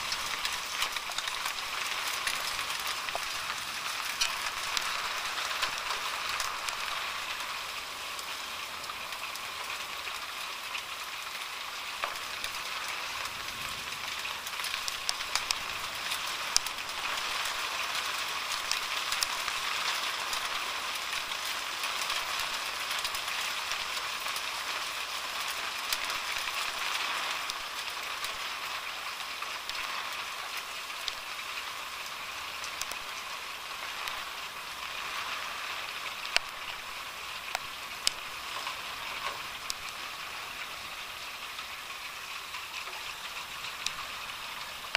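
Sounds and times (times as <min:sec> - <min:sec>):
hailstones clicking: 0:00.0 - 0:44.9
rain hissing: 0:00.0 - 0:44.9.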